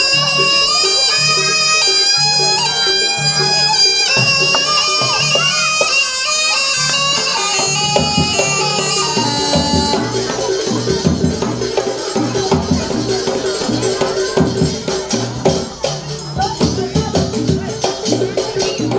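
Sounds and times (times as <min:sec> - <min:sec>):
drums: 0:00.0 - 0:18.9
shawm playing wavering melody: 0:00.0 - 0:18.9.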